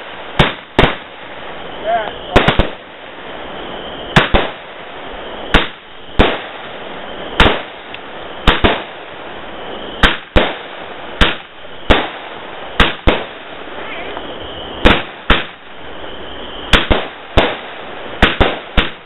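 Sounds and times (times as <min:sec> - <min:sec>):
firework bangs: 0:00.0 - 0:19.0
firework fountain hissing: 0:00.0 - 0:19.0.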